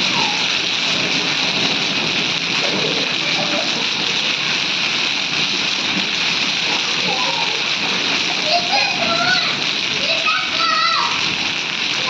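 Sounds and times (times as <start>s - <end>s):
heavy rain with hail: 0.0s - 12.0s.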